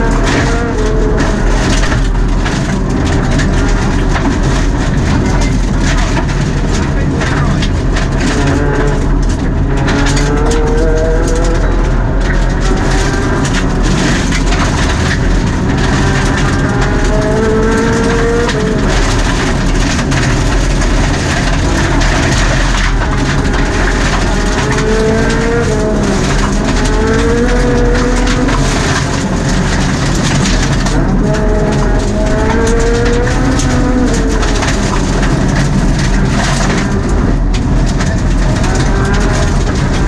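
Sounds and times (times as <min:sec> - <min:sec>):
gravel striking car underbody: 0:00.0 - 0:40.0
rally car engine at full throttle: 0:00.0 - 0:40.0.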